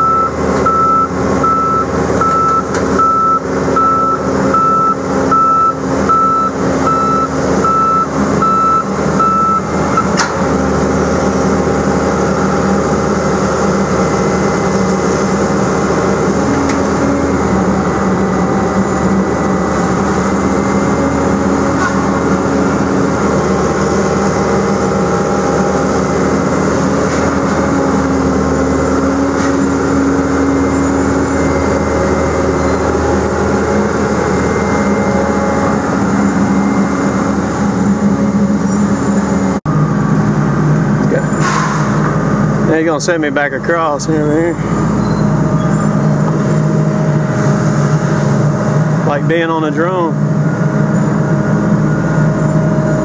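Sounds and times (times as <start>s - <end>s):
different engine sound: 0.0s - 53.0s
excavator diesel engine droning: 0.0s - 53.0s.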